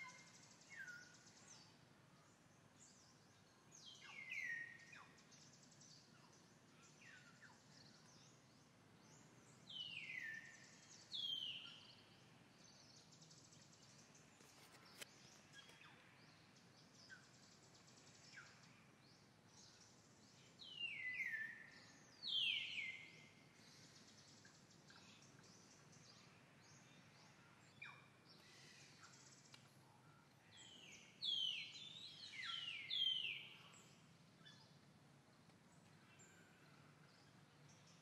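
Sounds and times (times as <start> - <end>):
faint background noise: 0.0 - 38.0.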